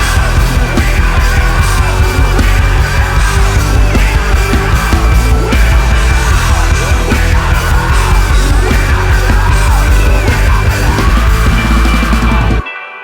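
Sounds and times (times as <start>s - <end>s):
heavy bass beat: 0.0s - 12.6s
shouted vocals: 0.0s - 12.6s
aggressive rock music: 0.0s - 13.0s.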